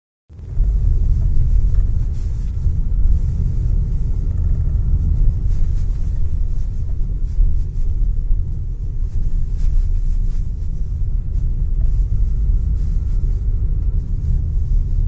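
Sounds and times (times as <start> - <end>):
car interior low rumble: 0.3 - 15.0.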